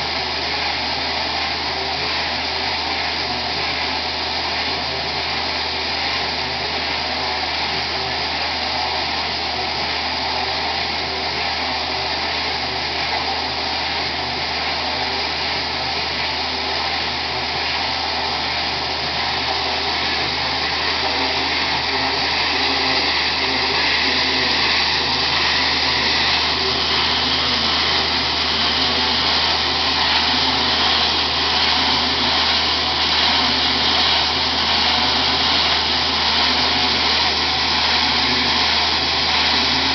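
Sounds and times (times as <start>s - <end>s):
high-pressure water jets hissing: 0.0s - 39.9s.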